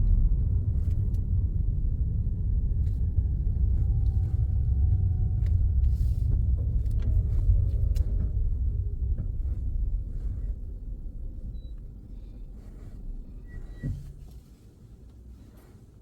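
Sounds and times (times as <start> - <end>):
road rumble: 0.0 - 14.4
car engine inside cabin: 0.0 - 15.8.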